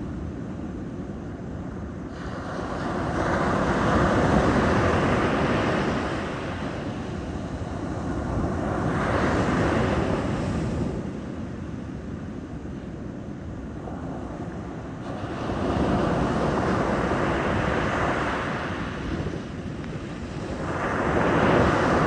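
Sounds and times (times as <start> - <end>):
sea waves breaking on shore: 2.1 - 11.5, 13.8 - 22.0.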